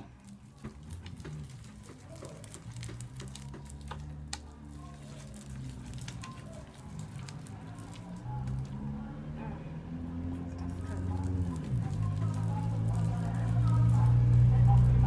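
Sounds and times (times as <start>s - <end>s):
slime squelching: 0.0s - 9.0s, 10.6s - 15.0s.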